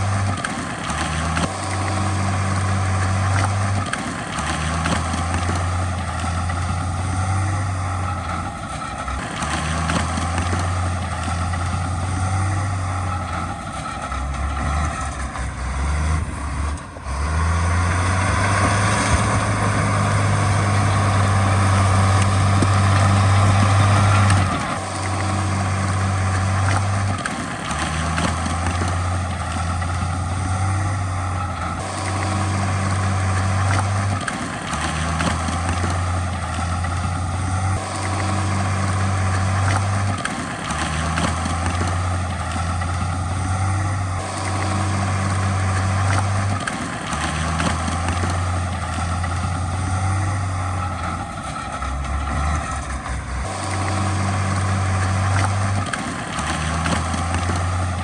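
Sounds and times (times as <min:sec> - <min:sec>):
heavy diesel machinery engines: 0:00.0 - 0:58.0.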